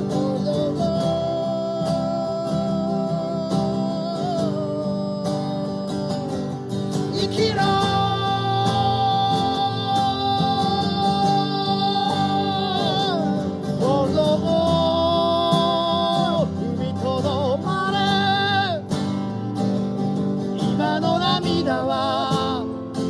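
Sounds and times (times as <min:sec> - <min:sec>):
person singing with vibrato: 0:00.0 - 0:19.2, 0:20.6 - 0:23.0
acoustic guitar strumming: 0:00.0 - 0:23.0.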